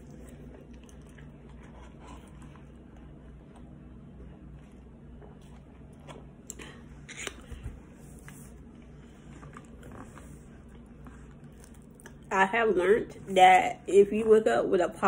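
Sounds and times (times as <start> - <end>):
soft clicks and slurps: 0.0 - 12.3.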